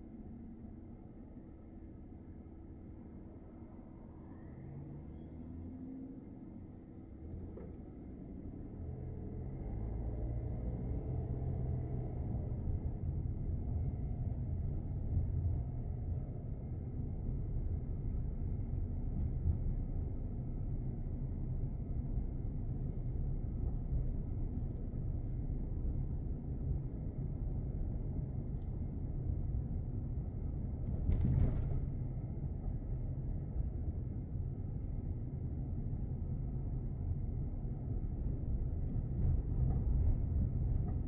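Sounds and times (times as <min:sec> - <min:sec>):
car engine and tyres rumbling: 0:00.0 - 0:41.0.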